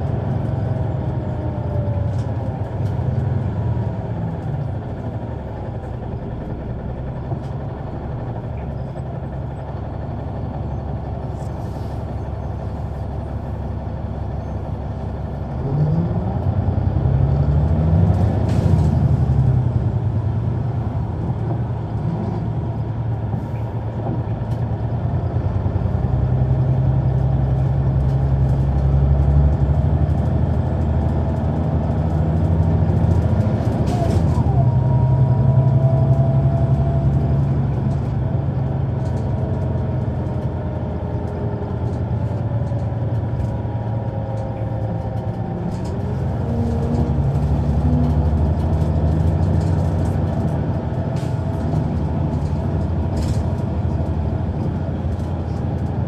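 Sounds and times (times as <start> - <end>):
bus diesel engine: 0.0 - 56.0.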